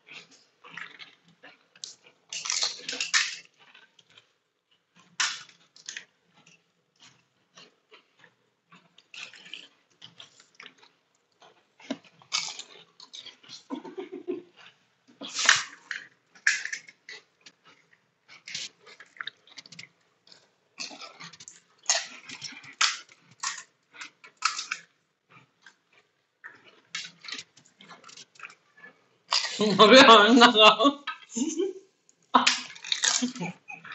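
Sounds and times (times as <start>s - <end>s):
crunching and chewing: 0.0s - 13.8s, 14.4s - 29.8s, 32.1s - 33.9s.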